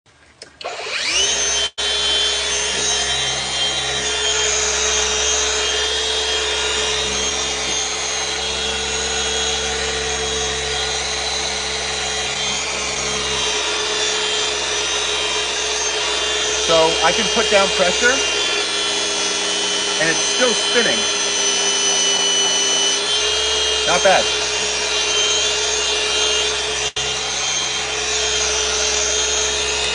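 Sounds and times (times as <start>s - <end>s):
car polisher whining: 0.4s - 29.9s.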